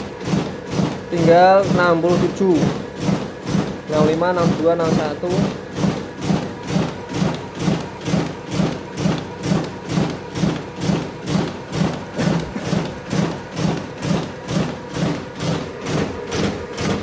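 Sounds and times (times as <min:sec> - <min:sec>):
duplicator machine feeding sheets: 0:00.0 - 0:17.0.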